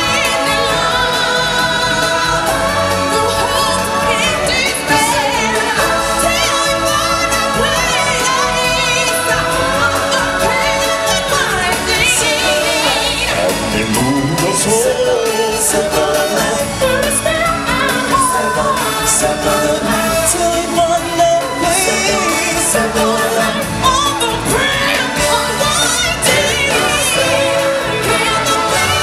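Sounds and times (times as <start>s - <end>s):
loud amplified backing music: 0.0s - 29.0s
singers with vibrato: 0.0s - 29.0s.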